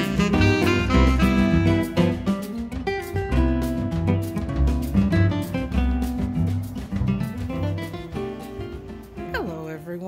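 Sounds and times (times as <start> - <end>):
guitar music over a beat: 0.0 - 10.0.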